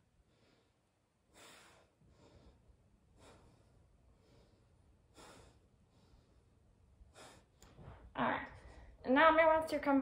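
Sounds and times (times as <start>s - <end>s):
woman breathing: 0.0s - 9.1s.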